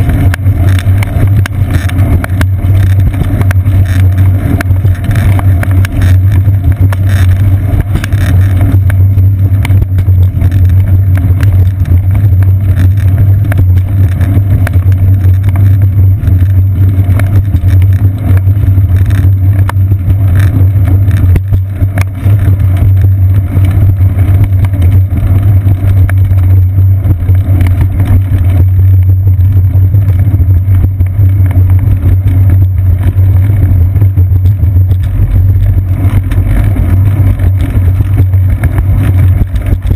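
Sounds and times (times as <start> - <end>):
bicycle road vibration: 0.0 - 39.9
low rumble of wind: 0.0 - 39.9.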